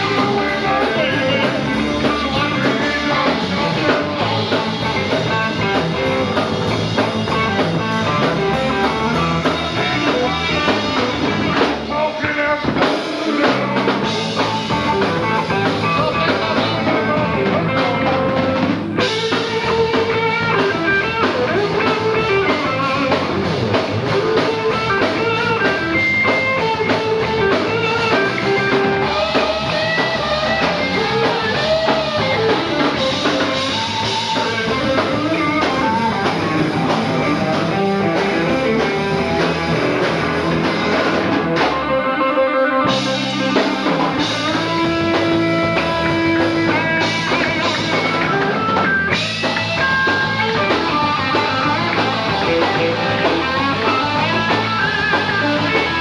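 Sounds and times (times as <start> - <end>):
drum kit: 0.0 - 56.0
electric guitar solo: 0.0 - 56.0.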